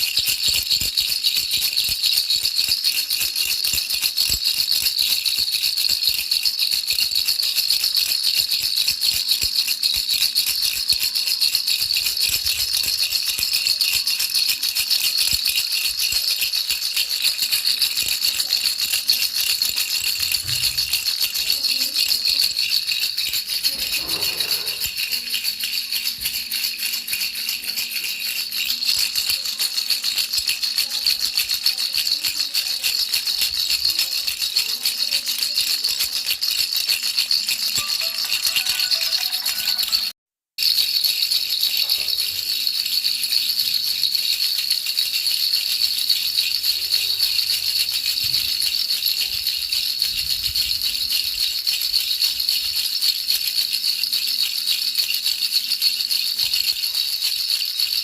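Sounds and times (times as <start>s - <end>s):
baby's rattle shaking: 0.0s - 58.0s.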